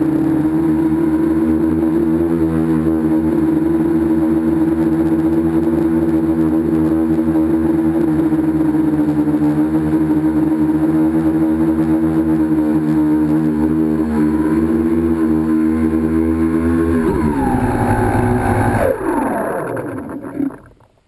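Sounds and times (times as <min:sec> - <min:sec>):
drone motors and propellers buzzing: 0:00.0 - 0:21.0.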